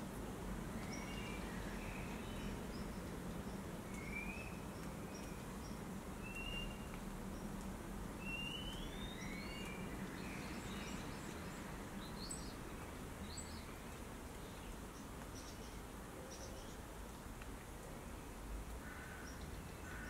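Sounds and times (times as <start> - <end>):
low background hiss: 0.0 - 20.0.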